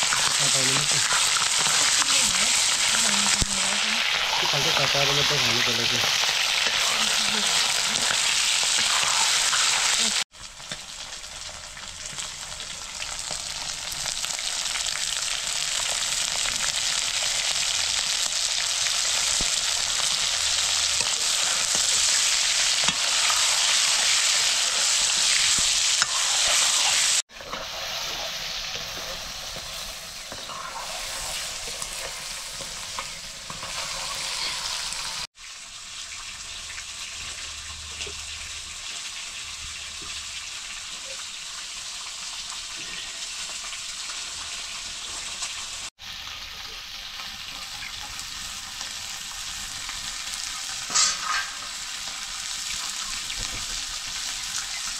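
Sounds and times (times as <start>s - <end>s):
curry sizzling in a pan: 0.0s - 54.9s.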